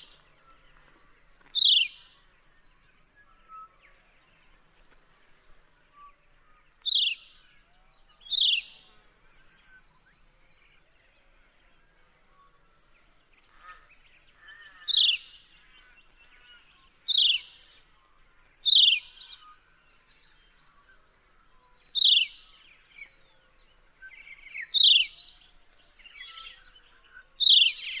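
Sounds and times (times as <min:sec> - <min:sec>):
other birds calling: 0:00.0 - 0:12.2, 0:13.0 - 0:28.0.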